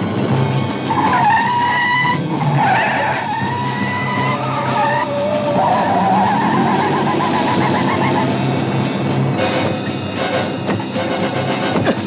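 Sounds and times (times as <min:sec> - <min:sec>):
car engine running: 0:00.0 - 0:12.0
car tyres squealing: 0:00.6 - 0:12.0.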